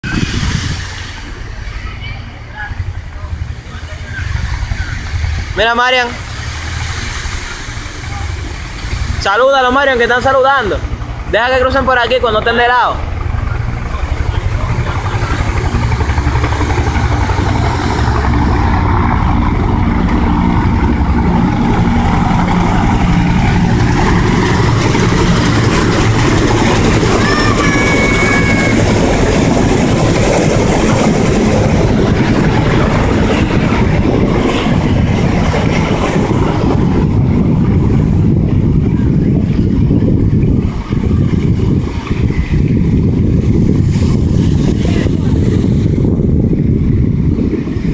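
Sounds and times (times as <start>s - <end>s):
helicopter rotors beating: 0.0s - 47.9s.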